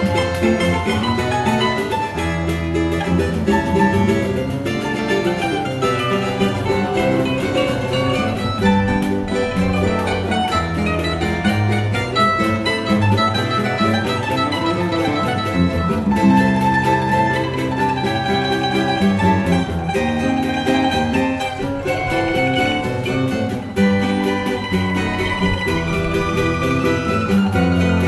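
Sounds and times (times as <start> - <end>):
guitar bass line: 0.0 - 28.0
plucked string ensemble: 0.0 - 28.0.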